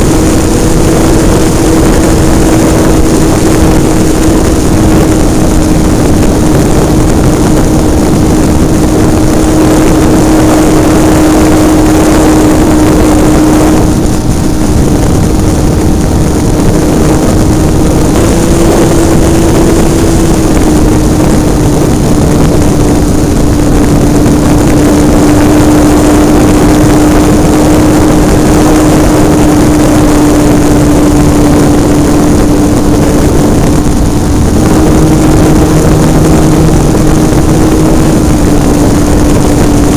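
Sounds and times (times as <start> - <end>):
model airplane engine buzzing: 0.0 - 39.9.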